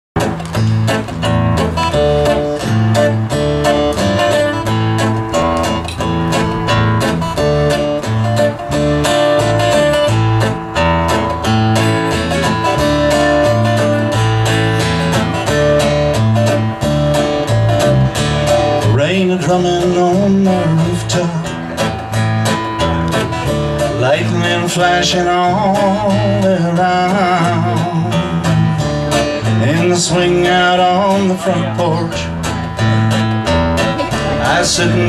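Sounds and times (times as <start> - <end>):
acoustic guitar strumming: 0.2 - 35.0
electric bass low notes: 0.2 - 35.0.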